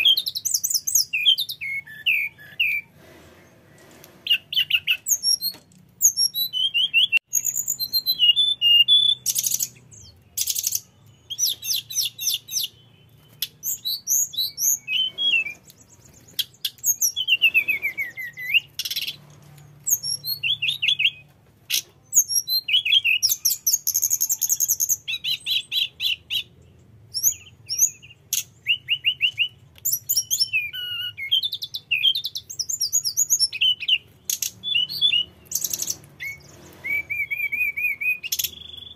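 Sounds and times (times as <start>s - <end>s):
bird singing whistles and trills: 0.0s - 3.0s, 4.3s - 19.2s, 19.8s - 38.9s.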